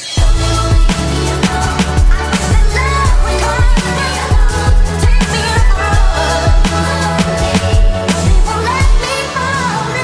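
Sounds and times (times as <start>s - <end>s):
pop music: 0.0s - 10.0s
heavy kick drum beat: 0.2s - 9.0s.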